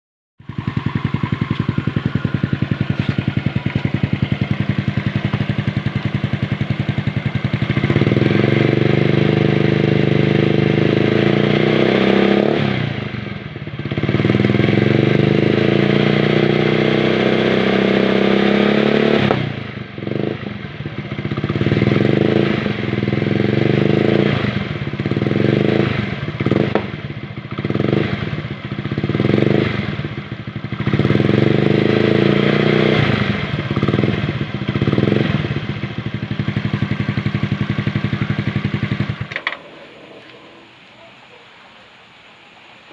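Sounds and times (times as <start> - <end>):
scooter engine idling and revving: 0.4 - 41.3.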